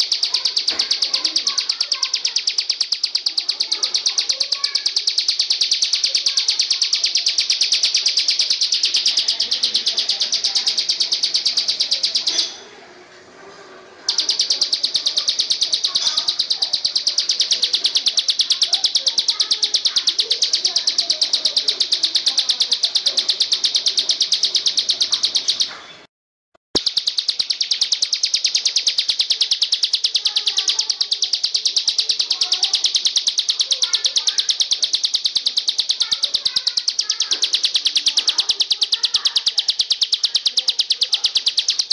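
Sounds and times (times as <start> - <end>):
high-pitched bird trill: 0.0 - 12.6, 14.1 - 25.8, 26.8 - 41.9
faint scattered chirps: 0.0 - 12.7, 14.0 - 26.1, 26.8 - 41.9.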